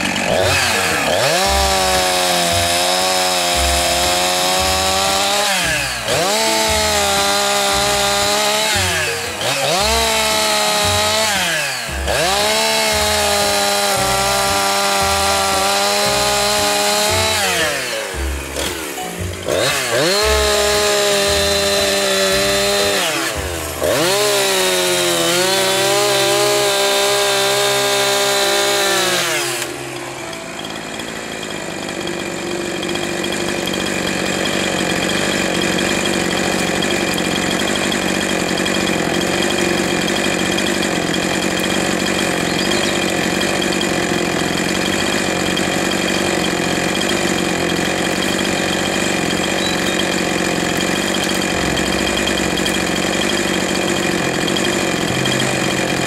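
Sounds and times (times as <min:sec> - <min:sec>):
chainsaw cutting at high revs: 0:00.0 - 0:56.0.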